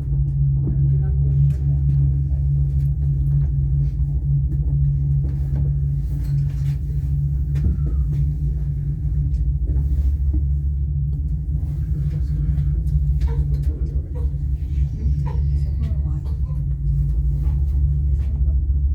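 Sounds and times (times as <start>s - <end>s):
gondola rumble and hum: 0.0s - 18.9s.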